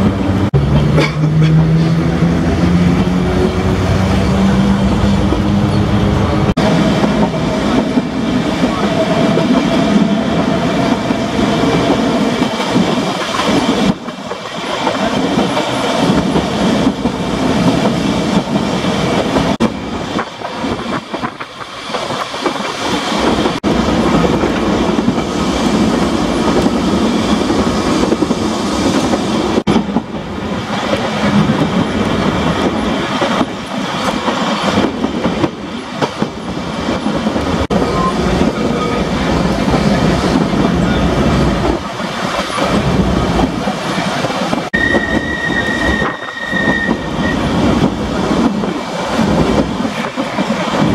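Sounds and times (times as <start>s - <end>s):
tram wheels rumbling on rail: 0.0s - 50.9s.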